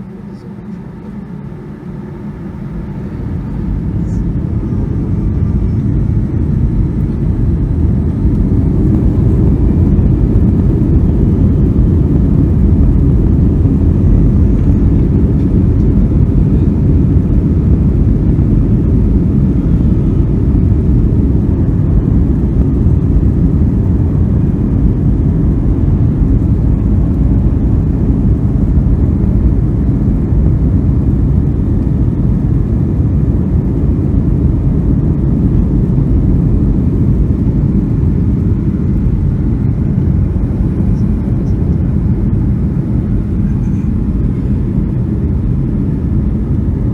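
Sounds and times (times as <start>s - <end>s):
jet engines rumbling in cabin: 0.0s - 46.9s.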